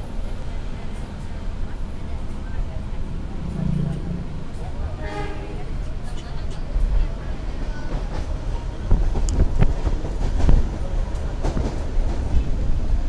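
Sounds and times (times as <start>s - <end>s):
train knocks and rattles: 0.0s - 13.0s
train rumble: 0.0s - 13.0s.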